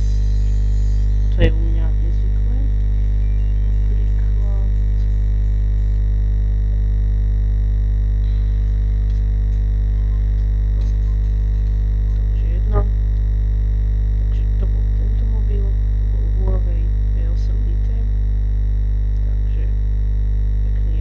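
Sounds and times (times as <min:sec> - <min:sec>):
droning synthesizer chord: 0:00.0 - 0:21.0.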